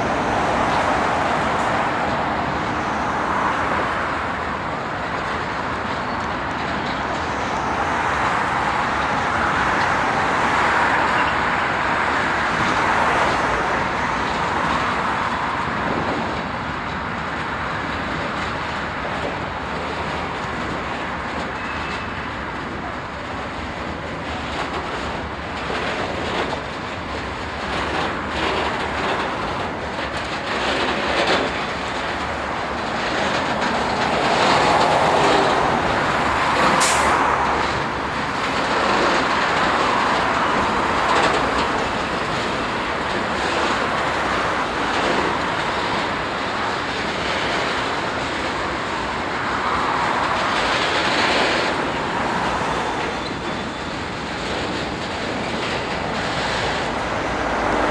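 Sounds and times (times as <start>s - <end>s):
train wheels clicking over rail joints: 0.0s - 57.9s.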